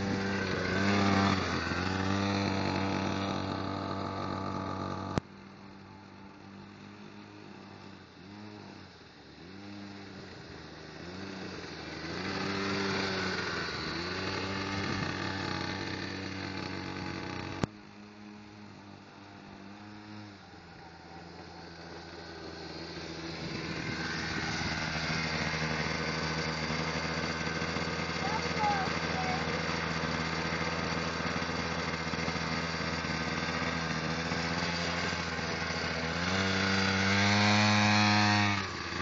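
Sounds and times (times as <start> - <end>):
small motorbike engine revving: 0.0 - 39.0.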